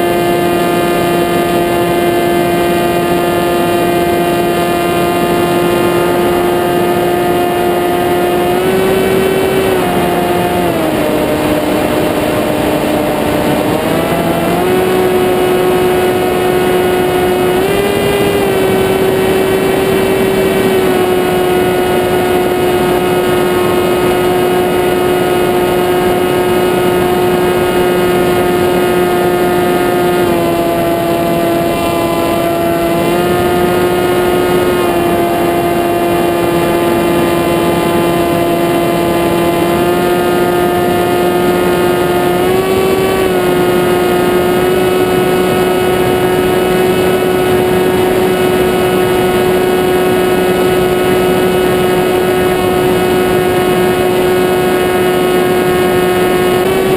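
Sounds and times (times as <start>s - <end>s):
rc aircraft motor whine: 0.0s - 56.9s.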